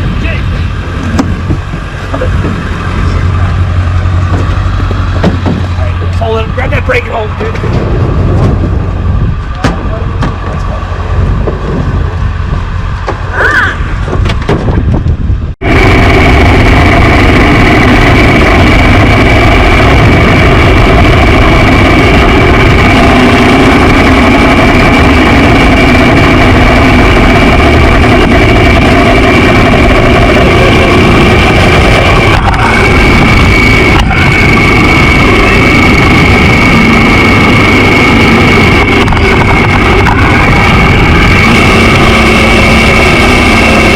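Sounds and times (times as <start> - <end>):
constant high whine: 0.0 - 43.9
motorcycle engine running: 0.0 - 43.9
wind rushing on microphone: 0.0 - 43.9.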